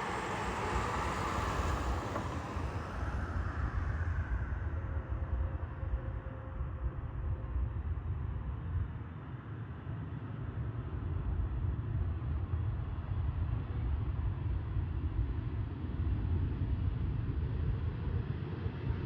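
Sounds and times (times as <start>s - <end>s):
jet engines low rumble: 0.0s - 19.0s.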